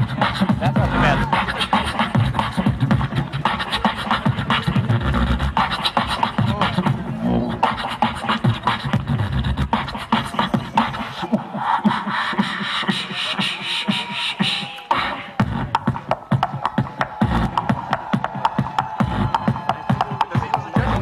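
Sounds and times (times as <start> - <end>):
amplified beatboxing: 0.0 - 21.0.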